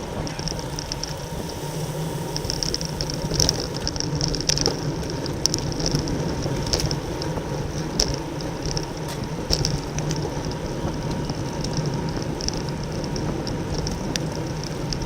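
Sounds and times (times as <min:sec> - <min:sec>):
whirr of bicycles riding: 0:00.0 - 0:15.0
wind rushing over microphone: 0:00.0 - 0:15.0.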